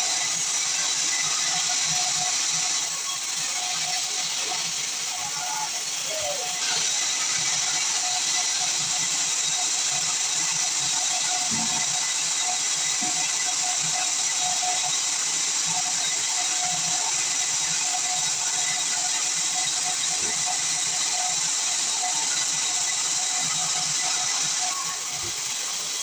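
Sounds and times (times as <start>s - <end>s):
sawmill machinery hissing: 0.0s - 26.0s.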